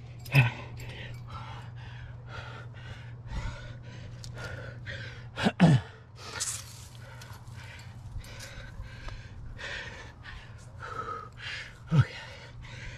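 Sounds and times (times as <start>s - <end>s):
person breathing hard: 0.0s - 12.9s.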